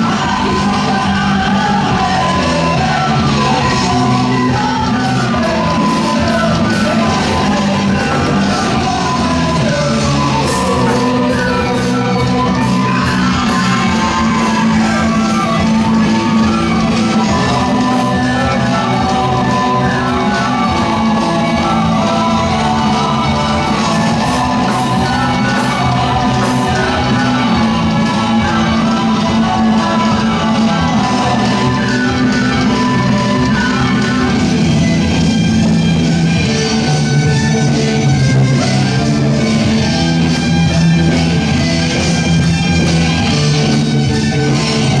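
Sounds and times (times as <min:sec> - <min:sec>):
drum kit playing: 0:00.0 - 0:45.0
loud dance music: 0:00.0 - 0:45.0.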